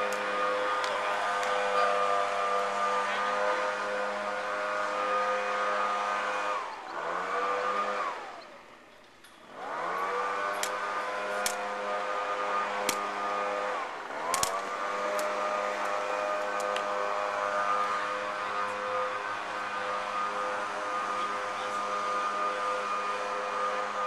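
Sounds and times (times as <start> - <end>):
motor drone with whine: 0.0 - 24.0.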